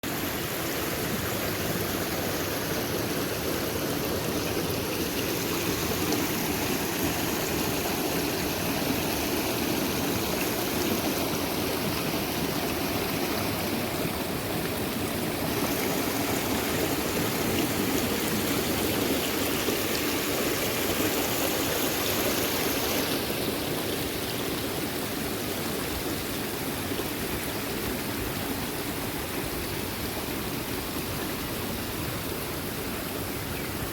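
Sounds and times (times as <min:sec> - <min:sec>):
small waterfall splashing: 0:00.0 - 0:33.9.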